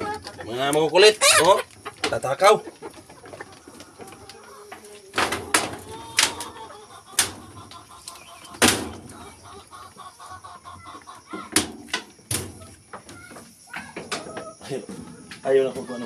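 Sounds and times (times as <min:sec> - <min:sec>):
chickens clucking softly: 0:00.0 - 0:16.0.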